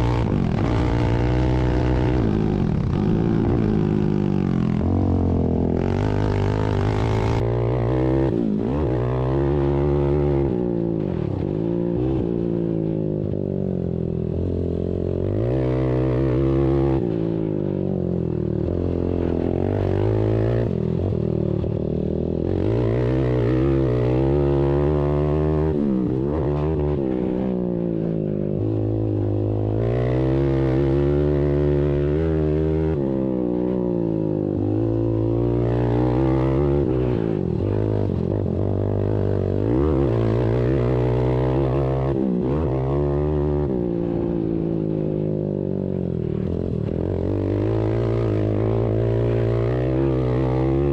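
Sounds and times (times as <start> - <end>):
atv engines racing: 0.0 - 12.9, 14.4 - 50.9.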